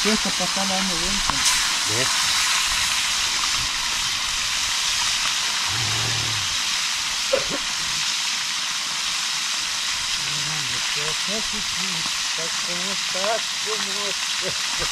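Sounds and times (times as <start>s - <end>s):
fish sizzling in hot oil: 0.0s - 14.9s.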